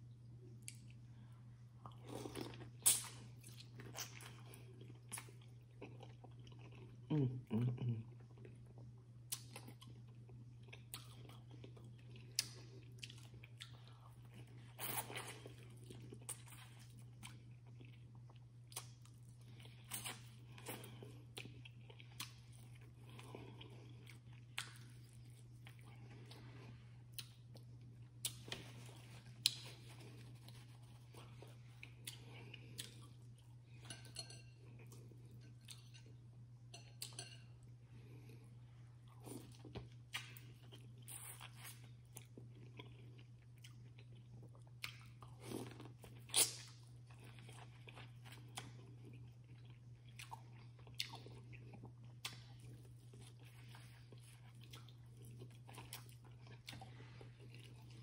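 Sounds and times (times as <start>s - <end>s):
chewing and crunching: 1.8s - 58.0s.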